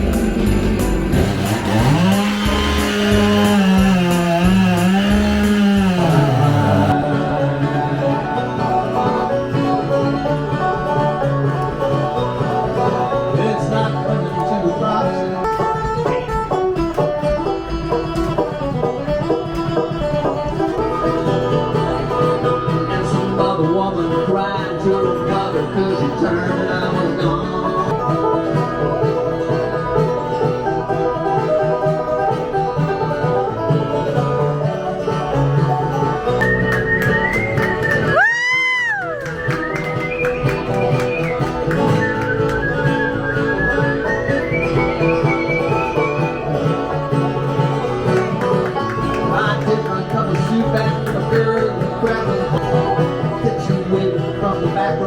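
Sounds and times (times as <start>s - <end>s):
bluegrass banjo and guitar music: 0.0s - 55.0s.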